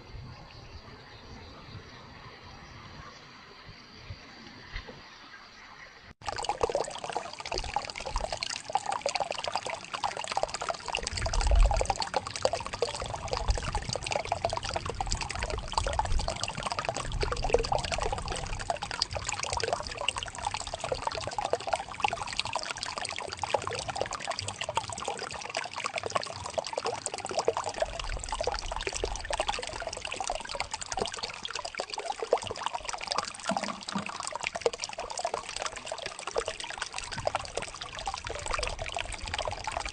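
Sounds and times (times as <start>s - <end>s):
water trickling and splashing: 4.8s - 39.9s.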